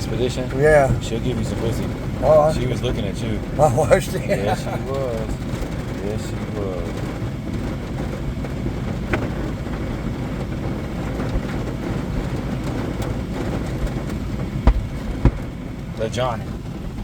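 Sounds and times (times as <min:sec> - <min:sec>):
rain: 0:00.0 - 0:17.0
wind: 0:00.0 - 0:17.0.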